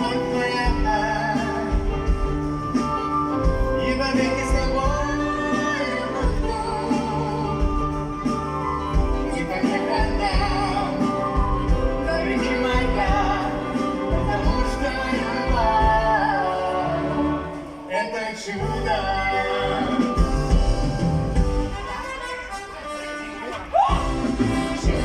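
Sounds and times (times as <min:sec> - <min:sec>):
instrumental backing music: 0:00.0 - 0:17.9, 0:18.6 - 0:25.0
person singing: 0:00.0 - 0:21.0, 0:23.5 - 0:25.0.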